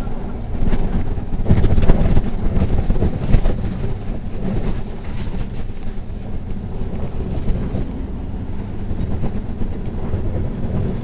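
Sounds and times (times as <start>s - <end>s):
bus body rattling: 0.0s - 11.0s
bus engine and road rumble: 0.0s - 11.0s.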